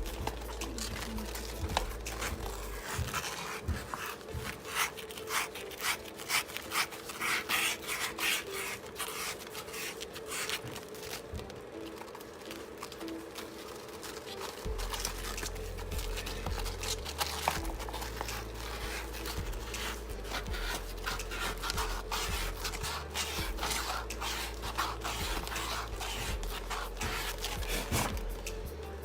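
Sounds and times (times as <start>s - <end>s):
scraping and rubbing small parts: 0.0s - 29.0s.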